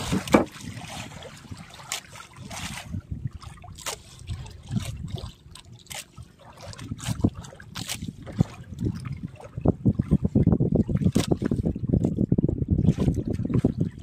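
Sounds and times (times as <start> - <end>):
water lapping against boat hull: 0.0 - 14.0.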